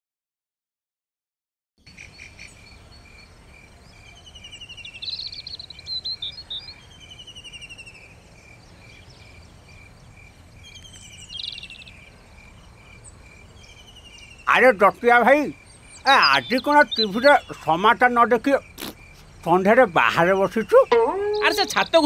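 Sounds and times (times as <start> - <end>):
birds calling: 1.8 - 22.0
cricket chirping: 1.8 - 22.0.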